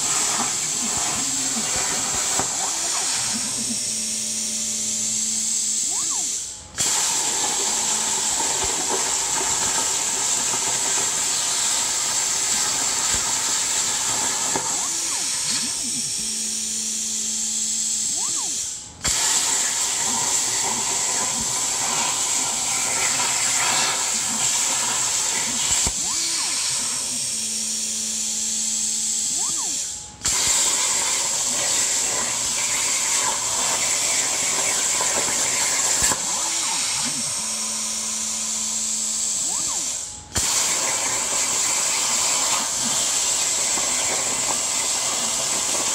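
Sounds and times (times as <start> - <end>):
gantry motors whining: 0.0 - 45.9
plasma cutter arc hissing: 0.0 - 45.9
steady machine hum: 0.0 - 45.9.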